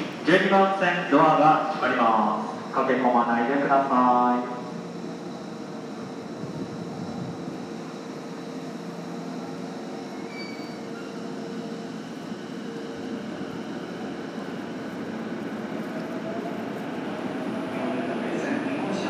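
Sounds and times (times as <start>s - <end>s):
idling train equipment humming: 0.0s - 19.0s
station platform rumble: 0.0s - 19.0s.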